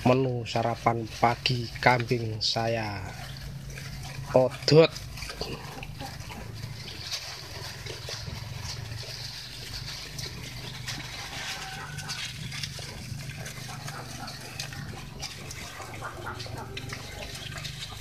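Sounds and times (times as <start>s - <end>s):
goats crunching grass: 0.0s - 18.0s
leaf rustling: 0.0s - 18.0s
steady low hum: 0.0s - 18.0s.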